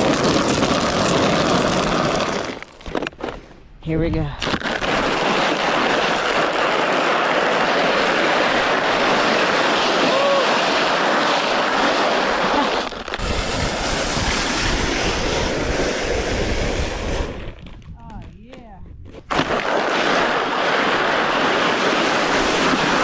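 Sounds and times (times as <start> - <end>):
sled sliding over ice: 0.0 - 3.5, 4.4 - 17.8, 19.2 - 23.0
wind on microphone: 4.2 - 23.0.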